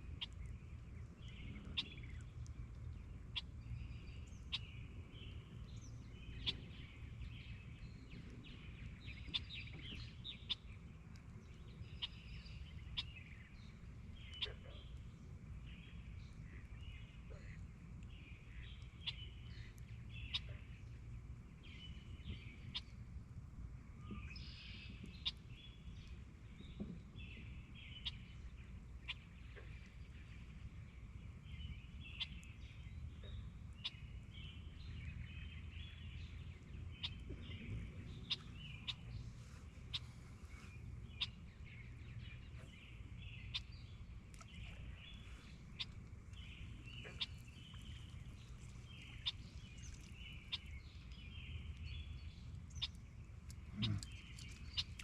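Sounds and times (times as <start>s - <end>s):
steady low rumble: 0.0s - 55.0s
birds chirping and calling: 0.1s - 11.0s, 11.6s - 23.0s, 24.0s - 55.0s.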